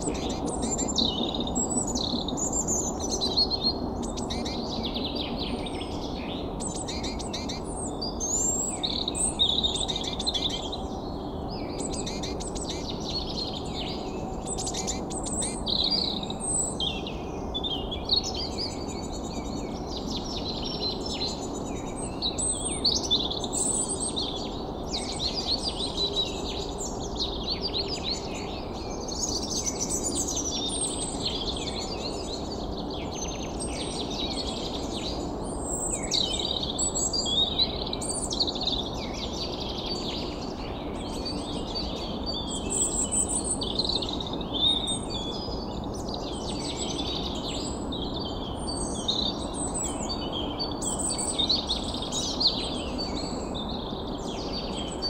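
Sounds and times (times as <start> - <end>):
birds chirping chorus: 0.0 - 55.0.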